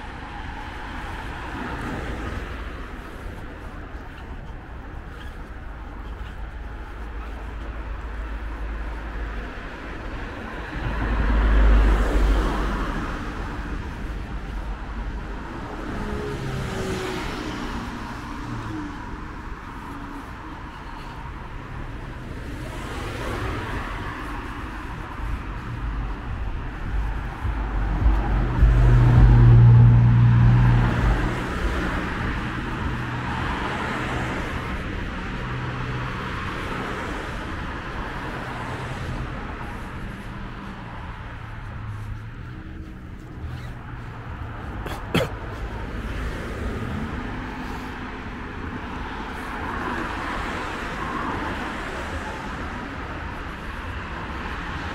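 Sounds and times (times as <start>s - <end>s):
cars passing: 0.0s - 54.9s
low engine hum: 1.4s - 49.8s.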